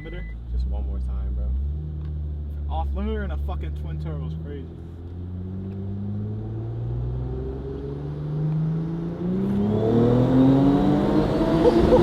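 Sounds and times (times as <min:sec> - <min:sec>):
car engine accelerating hard: 0:00.5 - 0:12.0.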